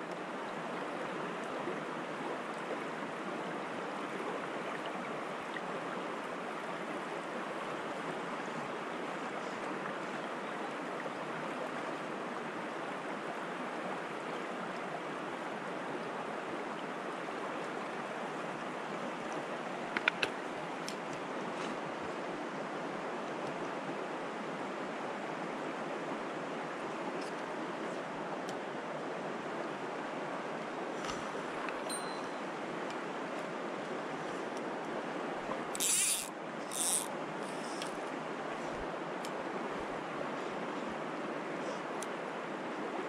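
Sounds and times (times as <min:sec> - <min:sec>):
stream running over stones: 0:00.0 - 0:43.0.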